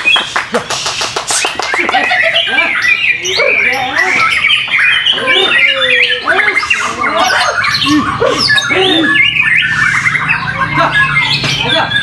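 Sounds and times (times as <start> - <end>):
songbird singing whistles and chirps: 0.0 - 0.5, 1.1 - 12.0
other songbirds singing: 0.0 - 12.0.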